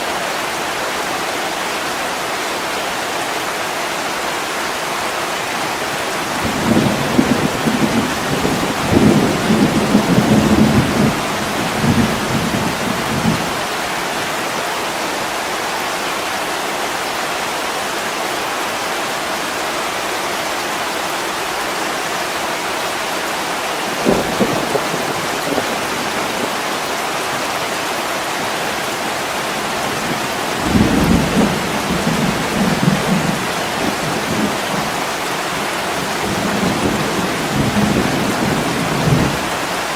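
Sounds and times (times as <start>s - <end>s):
heavy rain on window glass: 3.1s - 16.5s, 17.4s - 39.9s.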